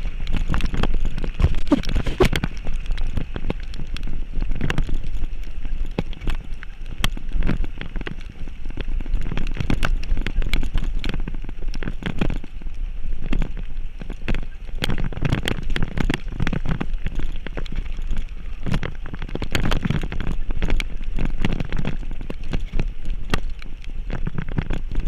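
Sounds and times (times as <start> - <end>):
rain: 0.0 - 25.0
wind on microphone: 0.0 - 25.0.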